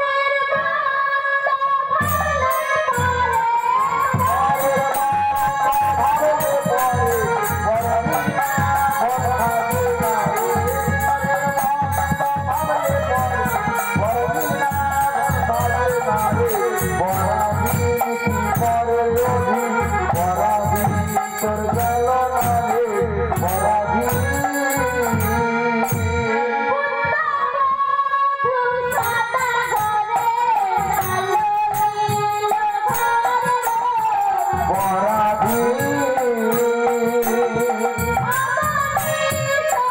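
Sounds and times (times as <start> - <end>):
jingling percussion: 2.0 - 26.5, 28.9 - 39.9.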